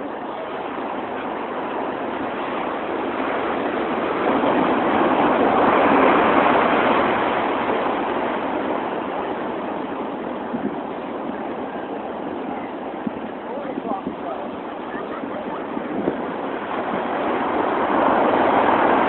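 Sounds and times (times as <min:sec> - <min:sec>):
heavy surf breaking: 0:00.0 - 0:19.0.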